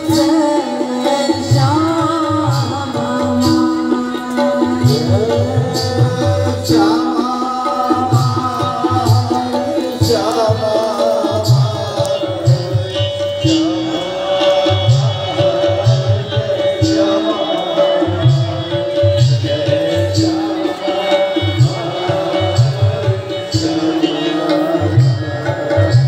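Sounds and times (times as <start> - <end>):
devotional music over loudspeaker: 0.0 - 26.0
person singing: 0.0 - 26.0
tabla drumming: 0.0 - 26.0.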